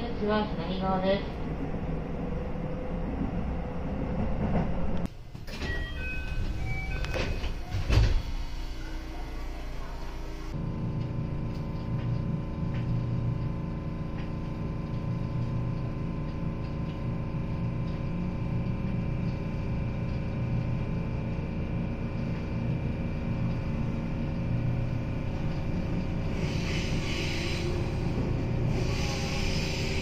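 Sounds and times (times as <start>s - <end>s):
train rumble and hum: 0.0s - 30.0s.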